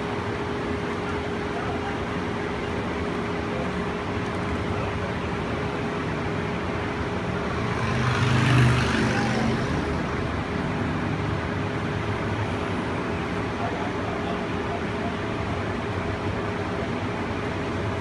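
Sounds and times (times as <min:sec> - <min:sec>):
constant hum: 0:00.0 - 0:18.0
people-mover car rumble: 0:00.0 - 0:18.0.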